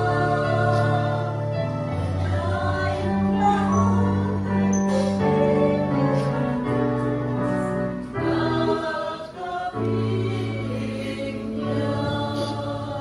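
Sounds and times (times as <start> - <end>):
choir singing a slow hymn: 0.0 - 13.0.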